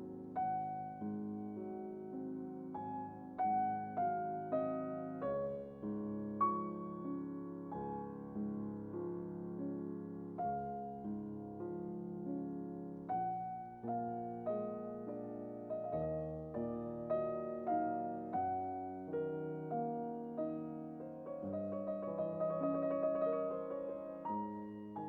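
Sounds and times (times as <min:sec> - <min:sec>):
solo piano notes and chords: 0:00.0 - 0:25.0.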